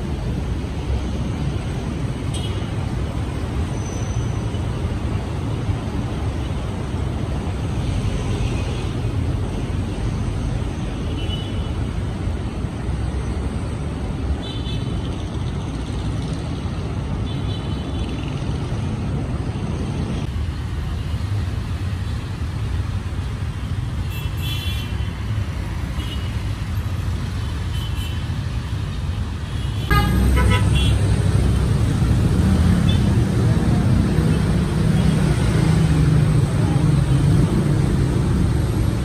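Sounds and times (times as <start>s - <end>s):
city road traffic: 0.0s - 39.0s.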